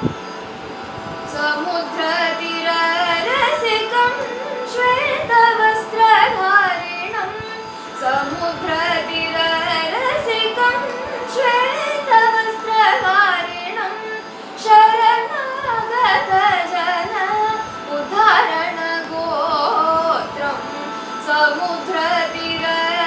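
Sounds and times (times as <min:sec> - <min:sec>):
steady drone: 0:00.0 - 0:23.0
girl singing devotional song: 0:01.3 - 0:23.0.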